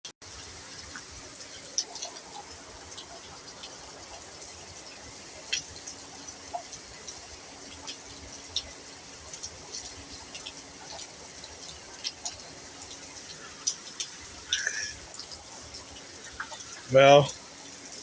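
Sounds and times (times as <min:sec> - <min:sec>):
rain dripping and splashing: 0:00.2 - 0:18.0
rain falling: 0:00.2 - 0:18.0.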